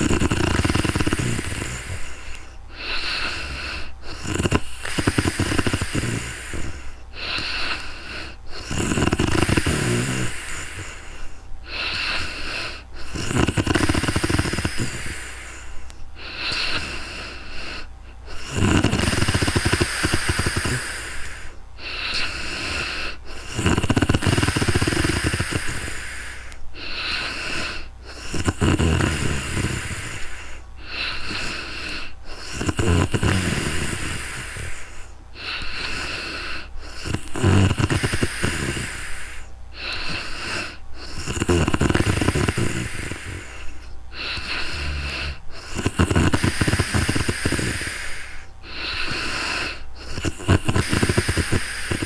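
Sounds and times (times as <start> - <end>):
airy breaths: 0.0 - 52.0
woman snoring: 0.0 - 52.0.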